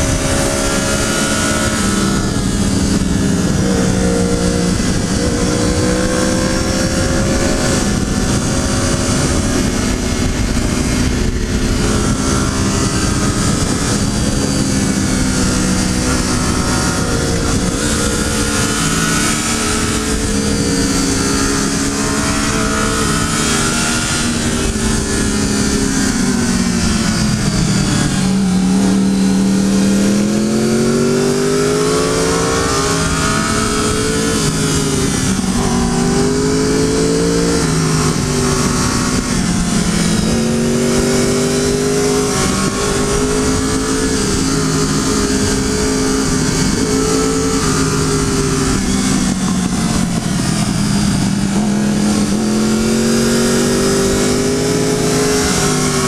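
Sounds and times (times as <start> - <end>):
motorcycle engine revving: 0.0 - 56.0
wind and road rush: 0.0 - 56.0.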